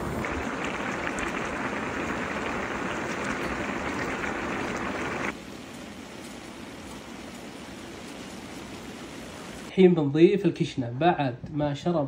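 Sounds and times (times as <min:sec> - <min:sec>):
rice boiling in a pot: 0:00.0 - 0:09.7.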